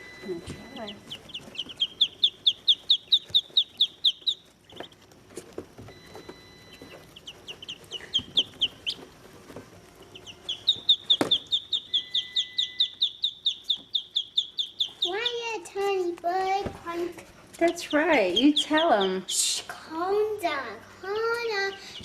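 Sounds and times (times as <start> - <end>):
ducklings peeping: 0.0 - 16.2, 17.6 - 19.6, 20.2 - 22.0.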